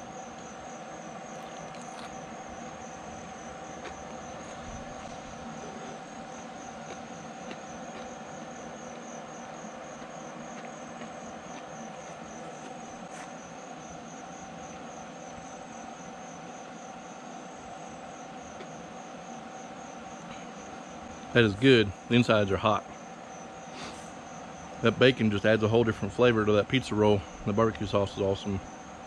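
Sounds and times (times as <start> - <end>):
insects chirping in a pulsing trill: 0.0 - 29.0.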